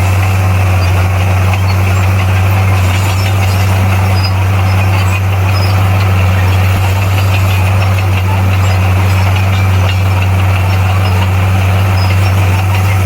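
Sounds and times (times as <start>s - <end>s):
bulldozer diesel engine droning: 0.0s - 13.0s
working machine rattling: 0.0s - 13.0s.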